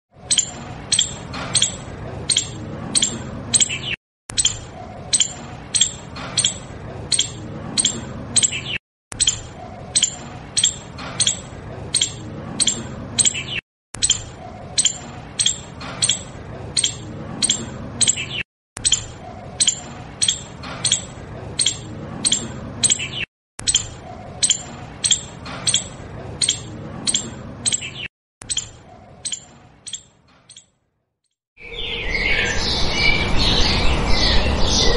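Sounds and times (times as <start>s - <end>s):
high-pitched animal chirps: 0.2s - 30.7s.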